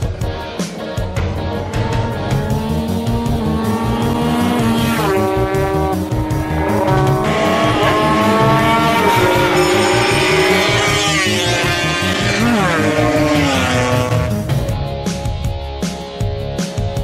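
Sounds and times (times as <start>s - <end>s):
background music with steady beat: 0.0s - 17.0s
racing motorcycle engines revving: 0.1s - 14.7s.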